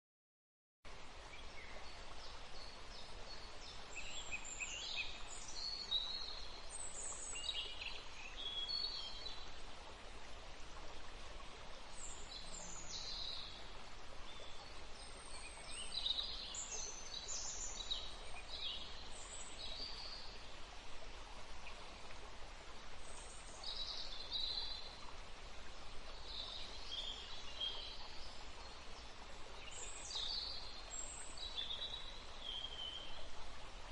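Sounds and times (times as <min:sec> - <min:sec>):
steady outdoor hiss: 0:00.9 - 0:33.9.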